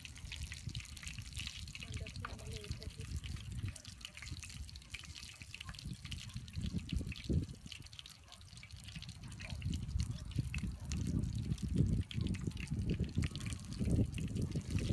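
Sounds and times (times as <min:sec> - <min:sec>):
fish frying in hot oil: 0:00.0 - 0:14.9.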